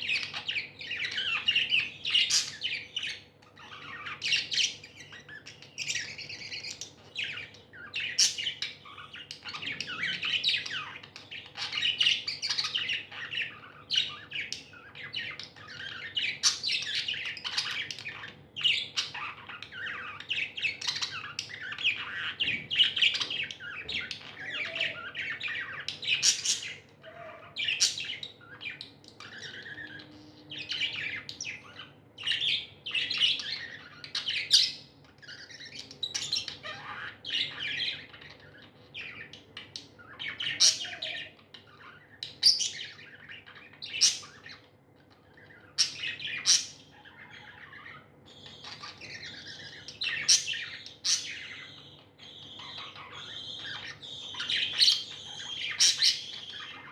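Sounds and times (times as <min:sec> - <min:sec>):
budgerigars chirping: 0:00.0 - 0:56.9.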